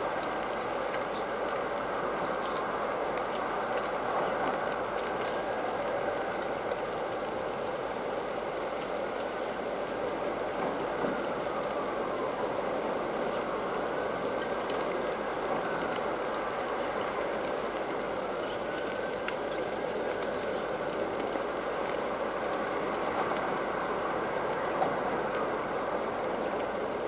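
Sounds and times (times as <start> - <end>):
rain: 0.0 - 27.0
wind: 0.0 - 27.0.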